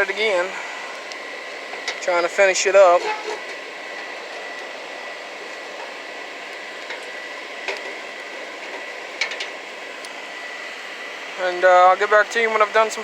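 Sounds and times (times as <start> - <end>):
forge blower rushing air: 0.0 - 13.0
thin steady whine: 0.0 - 13.0.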